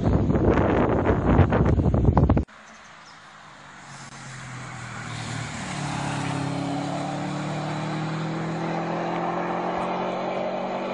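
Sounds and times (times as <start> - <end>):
car engine approaching: 1.3 - 10.9.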